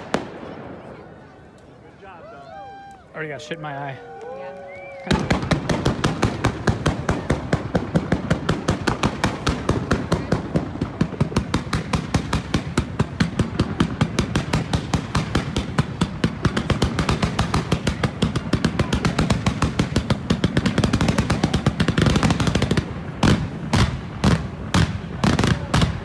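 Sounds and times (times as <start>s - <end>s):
fireworks banging: 0.0s - 4.1s, 4.8s - 26.0s.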